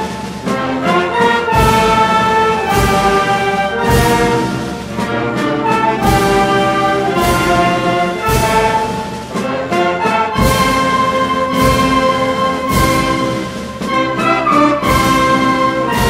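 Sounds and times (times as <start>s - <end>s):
drum strokes: 0.0s - 16.0s
wind band playing a slow hymn: 0.0s - 16.0s.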